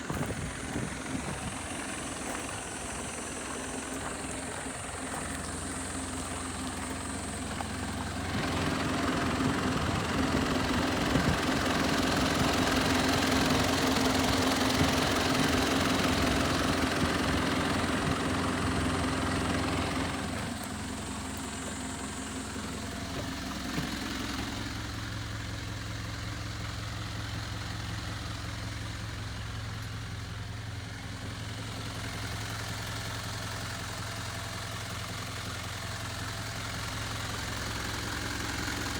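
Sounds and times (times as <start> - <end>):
bus engine idling and revving: 0.0 - 38.9.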